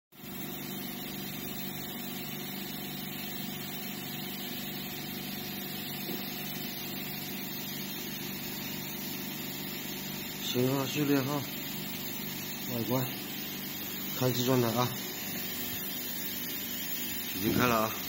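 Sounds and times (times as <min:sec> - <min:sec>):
mechanical hum with tones: 0:00.2 - 0:18.0.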